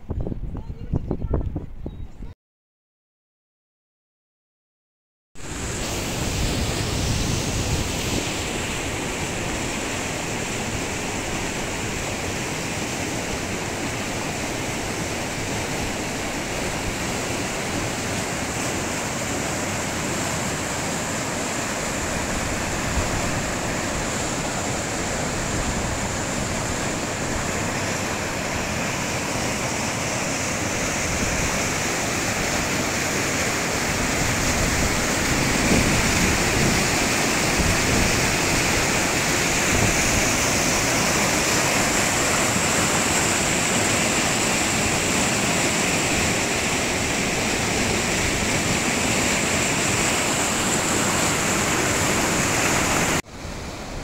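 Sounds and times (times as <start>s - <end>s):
water rushing: 5.4s - 54.0s.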